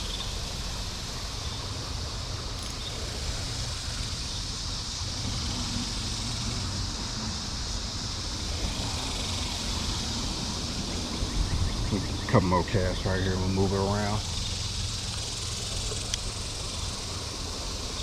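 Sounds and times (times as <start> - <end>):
high hiss: 0.0 - 18.0.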